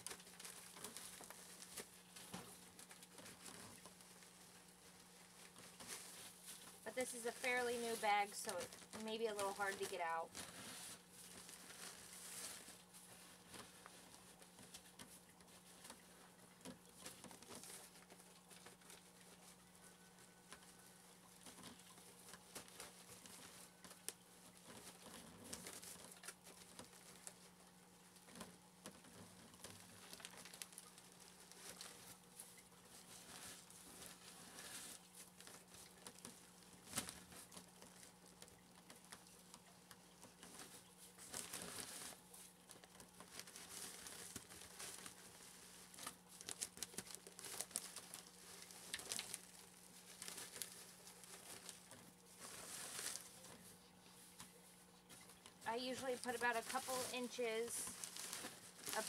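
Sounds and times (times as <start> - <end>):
wood shavings rustling: 0.0 - 27.6, 28.2 - 59.0.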